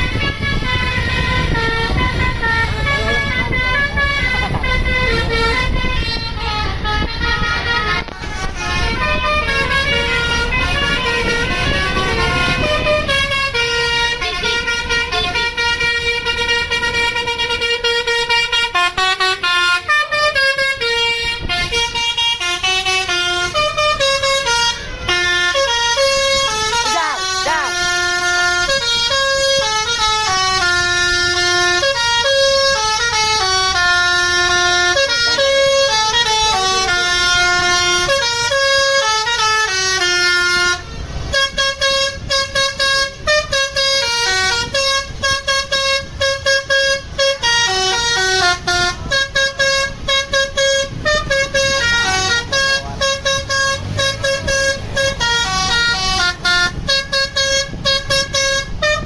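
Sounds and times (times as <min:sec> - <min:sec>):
bus air horn playing melody: 0:00.0 - 0:59.0.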